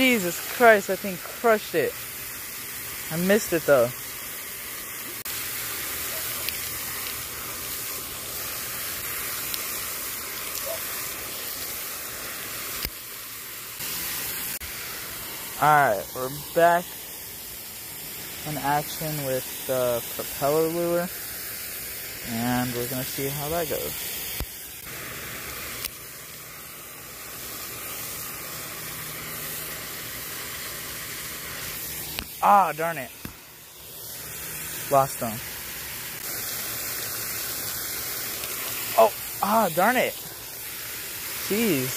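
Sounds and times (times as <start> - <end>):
fountain spray falling on water: 0.0 - 41.9.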